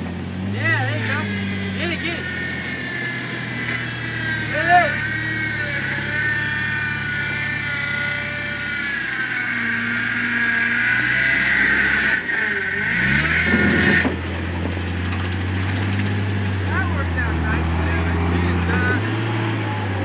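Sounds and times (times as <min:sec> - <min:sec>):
car engine running under load: 0:00.0 - 0:20.0
high whine: 0:00.0 - 0:20.0.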